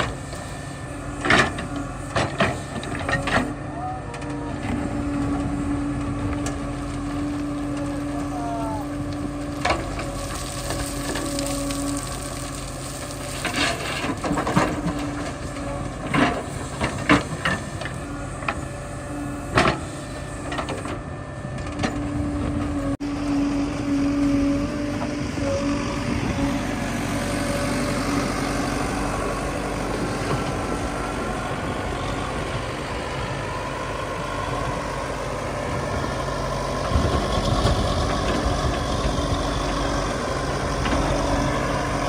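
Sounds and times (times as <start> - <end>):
backhoe loader engine humming: 0.0 - 42.0.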